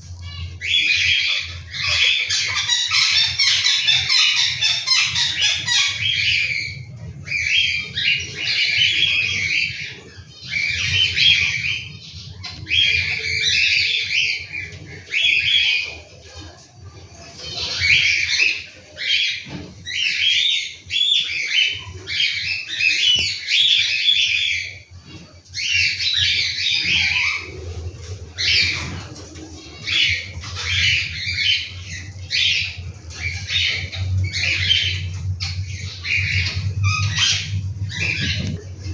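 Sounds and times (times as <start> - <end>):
cockatiel chicks begging calls: 0.0 - 38.9.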